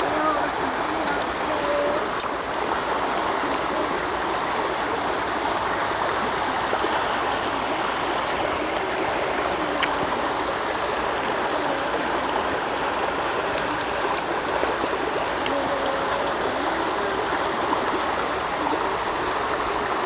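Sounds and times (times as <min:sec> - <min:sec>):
stream water over rocks: 0:00.0 - 0:20.0.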